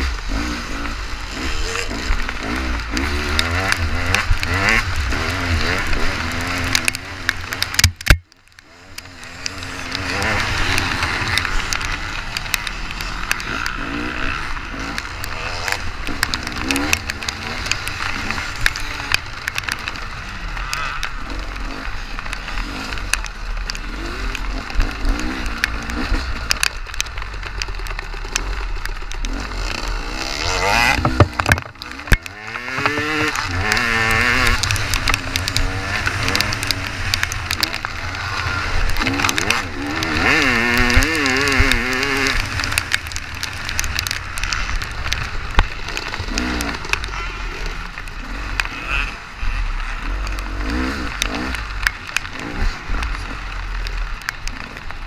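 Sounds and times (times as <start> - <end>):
dirt bike engine racing: 0.0 - 55.0.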